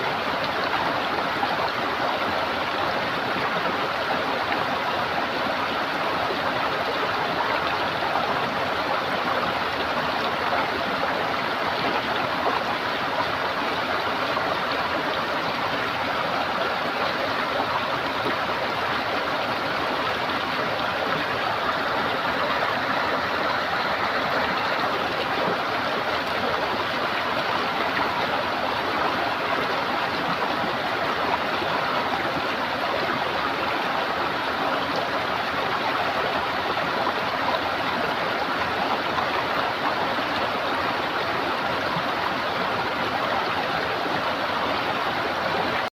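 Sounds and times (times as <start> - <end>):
stream water gurgling: 0.0 - 45.9.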